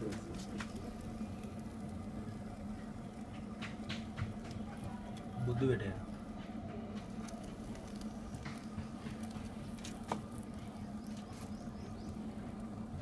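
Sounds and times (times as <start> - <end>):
potter's wheel humming: 0.0 - 13.0.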